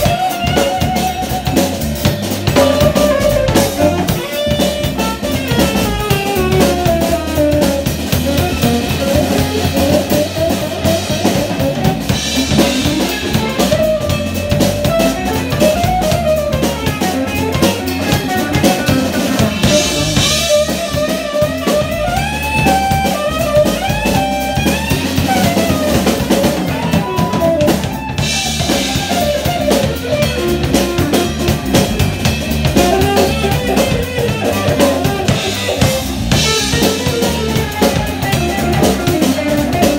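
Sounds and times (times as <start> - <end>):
drum kit: 0.0 - 39.9
electric bass: 0.0 - 39.9
electric guitar: 0.0 - 39.9
tenor saxophone solo: 0.0 - 39.9.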